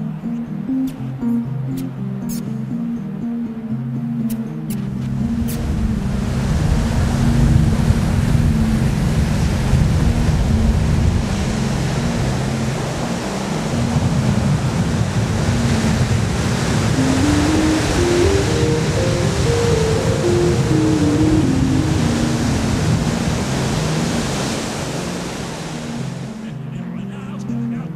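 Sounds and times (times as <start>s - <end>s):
ocean surf breaking: 0.0s - 27.2s
background music: 0.0s - 27.9s.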